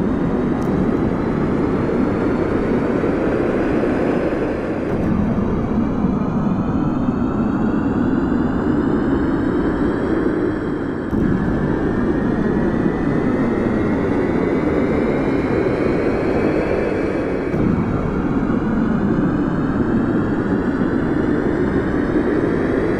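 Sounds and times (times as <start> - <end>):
airplane engines roaring: 0.0 - 22.9.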